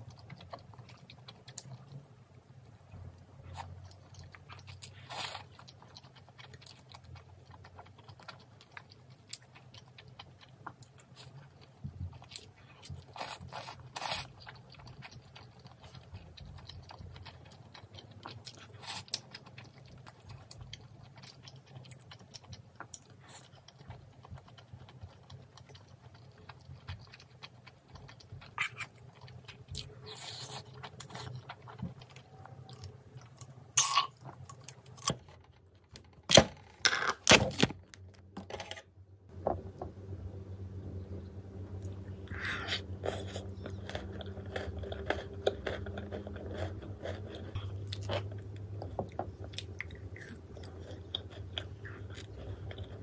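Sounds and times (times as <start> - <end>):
person chewing food: 0.0 - 35.2, 41.7 - 53.0
low steady hum: 0.0 - 53.0.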